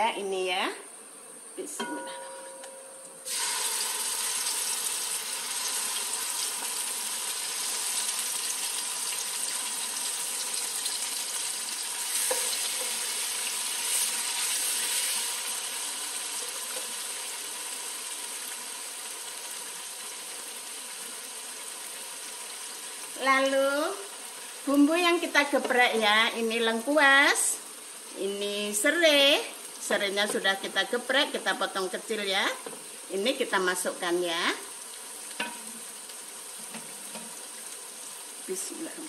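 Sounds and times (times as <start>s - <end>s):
paste sizzling in hot oil: 3.2s - 39.0s.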